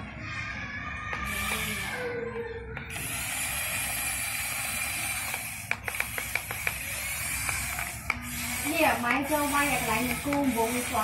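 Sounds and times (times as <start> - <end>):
toy electric motors whirring: 1.0 - 11.0.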